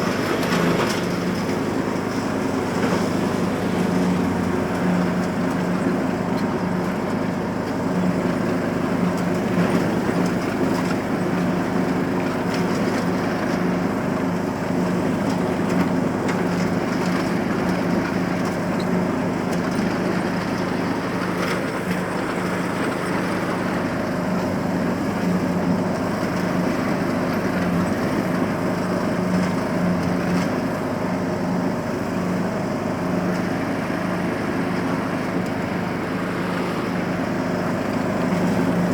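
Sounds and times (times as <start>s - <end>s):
lawnmower engine running: 0.0s - 38.9s.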